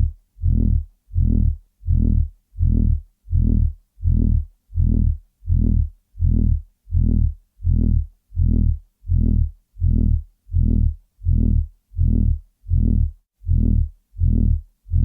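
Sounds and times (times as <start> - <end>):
loud low buzzing throb: 0.0 - 15.0.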